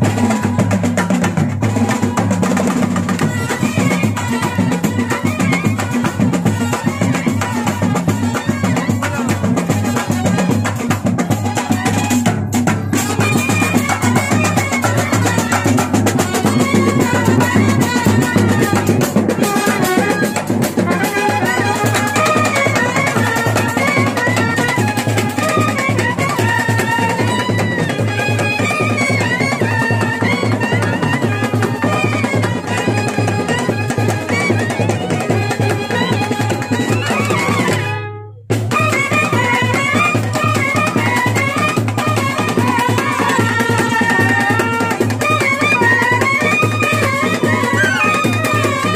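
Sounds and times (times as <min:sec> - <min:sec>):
drum band playing fast rhythm: 0:00.0 - 0:48.9.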